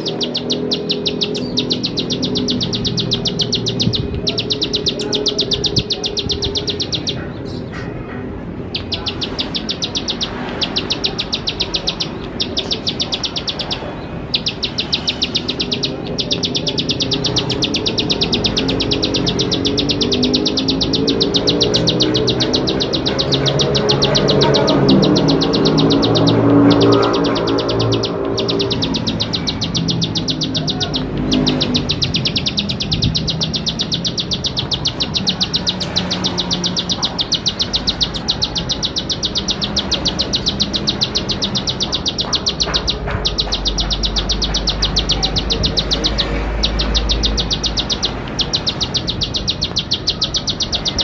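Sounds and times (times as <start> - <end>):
bird clicking trill: 0.0 - 7.3, 8.6 - 51.0.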